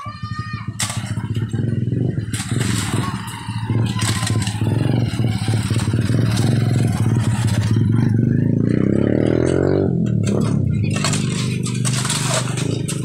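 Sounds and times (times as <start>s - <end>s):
small motorcycle engine running: 0.0s - 13.0s
gravel scraping and clattering: 0.6s - 13.0s.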